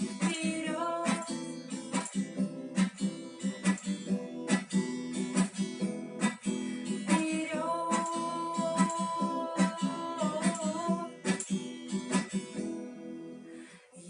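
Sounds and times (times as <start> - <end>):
acoustic guitar strumming: 0.0 - 13.8.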